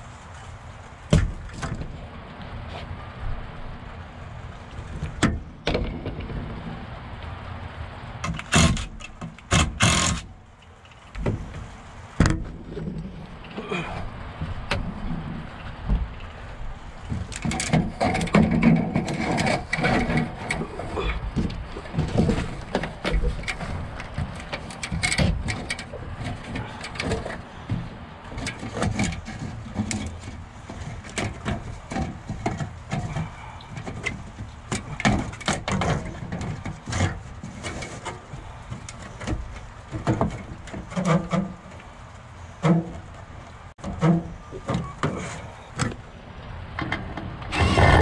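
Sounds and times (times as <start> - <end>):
duct pipe knocking and scraping: 4.8 - 6.8, 8.2 - 10.3, 10.9 - 46.1.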